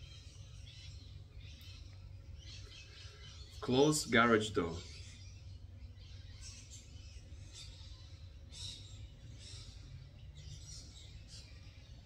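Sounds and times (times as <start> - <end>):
faint bird chirps: 0.0 - 12.0
low background hum: 0.0 - 12.0.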